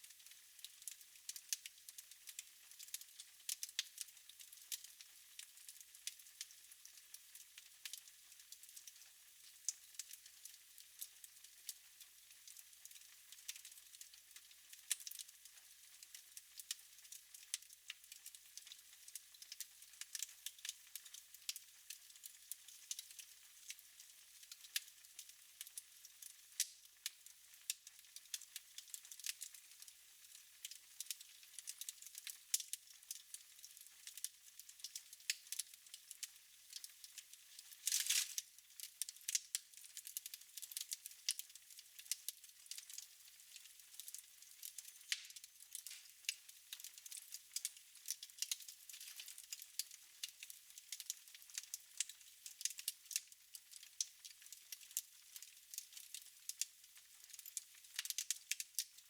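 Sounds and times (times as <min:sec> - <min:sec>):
wood fire crackling: 0:00.0 - 0:06.6, 0:07.3 - 0:11.8, 0:12.4 - 0:15.3, 0:16.0 - 0:59.0.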